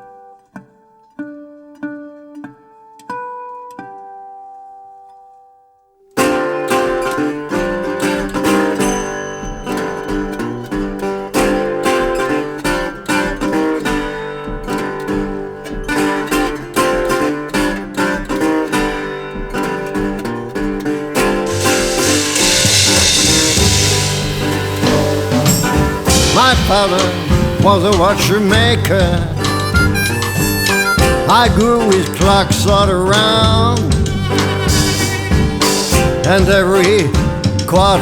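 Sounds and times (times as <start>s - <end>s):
acoustic blues guitar: 0.0s - 38.0s.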